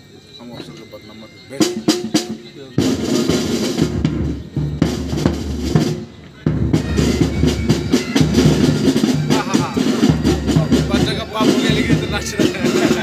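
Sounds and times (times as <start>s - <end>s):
pipe band drums playing: 0.4s - 13.0s.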